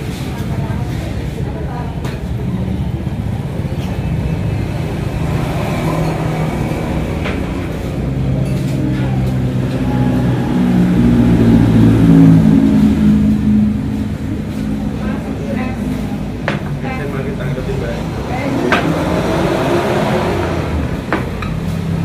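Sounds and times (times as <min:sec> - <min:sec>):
engine running and revving: 0:03.8 - 0:22.0.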